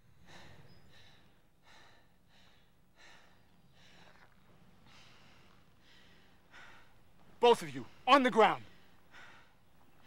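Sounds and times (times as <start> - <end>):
faint short breaths: 0.0 - 10.0.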